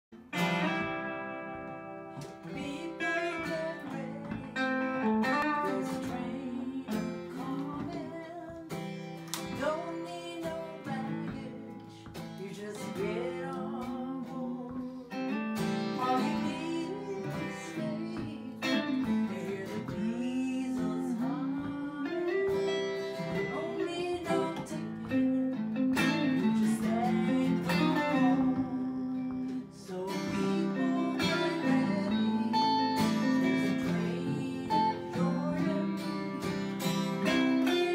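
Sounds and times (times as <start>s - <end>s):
electric guitar lead lines: 0.1s - 37.9s
acoustic guitar strumming: 0.2s - 37.9s.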